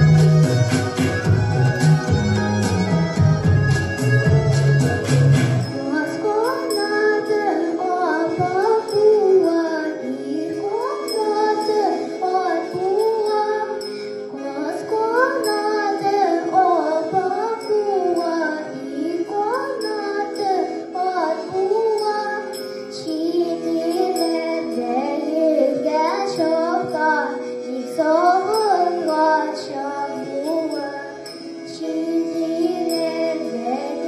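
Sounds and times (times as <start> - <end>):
instrumental accompaniment: 0.0 - 34.0
girl singing into microphone: 5.6 - 34.0.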